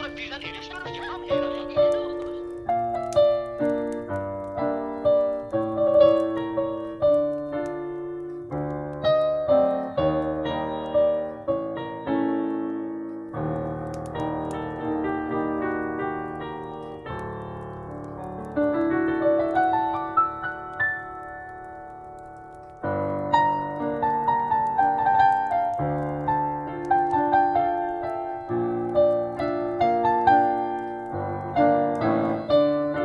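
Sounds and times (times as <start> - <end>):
fireplace crackling: 0.0 - 33.0
solo piano melody: 0.0 - 33.0.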